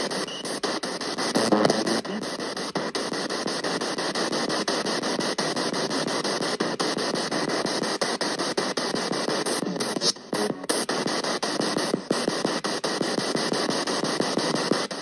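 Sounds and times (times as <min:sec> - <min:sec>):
static-like hiss and rustle: 0:00.0 - 0:15.0.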